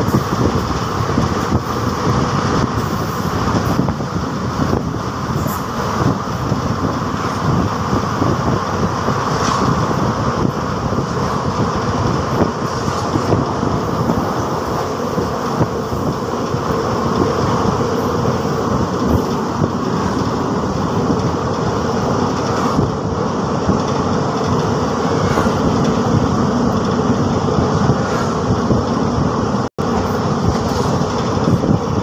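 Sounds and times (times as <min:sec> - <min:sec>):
train wheels clattering on rails: 0:00.0 - 0:32.0.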